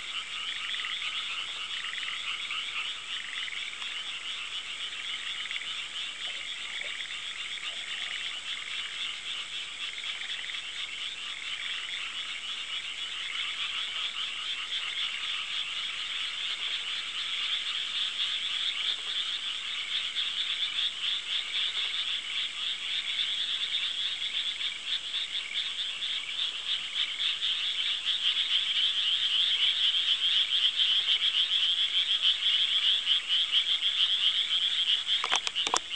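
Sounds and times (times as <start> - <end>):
frogs croaking: 0.0 - 35.9.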